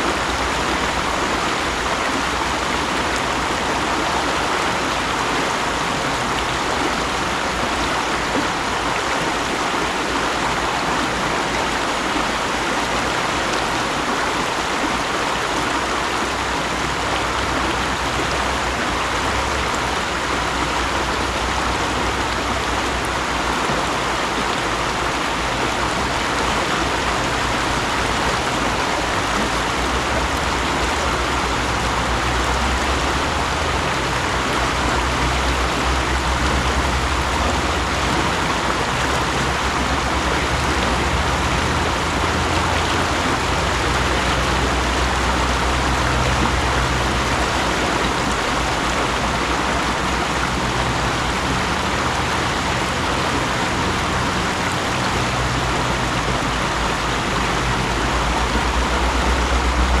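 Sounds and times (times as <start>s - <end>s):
mountain stream rushing: 0.0s - 60.0s.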